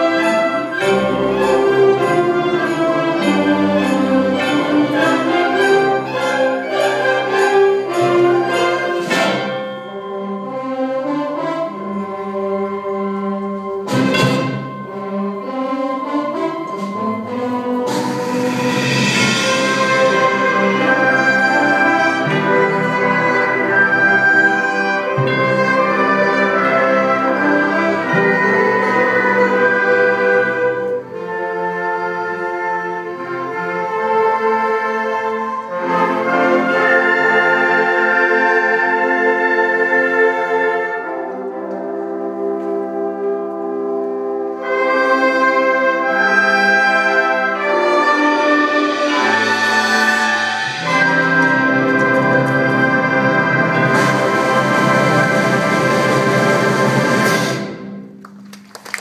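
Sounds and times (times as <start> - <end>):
concert band playing: 0.0 - 59.0.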